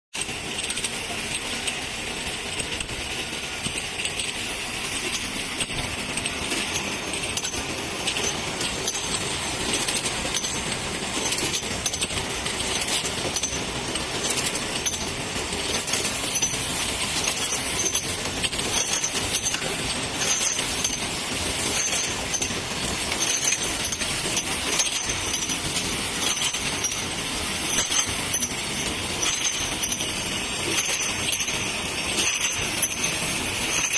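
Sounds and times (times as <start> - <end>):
bottle filling machine running: 0.2 - 33.9
bottles clinking: 6.5 - 33.9.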